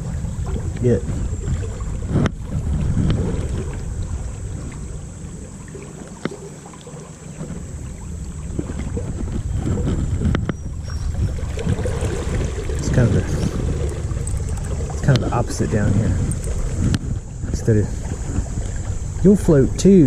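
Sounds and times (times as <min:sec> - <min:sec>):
river water: 0:00.0 - 0:20.0
wind rumble on microphone: 0:00.0 - 0:20.0.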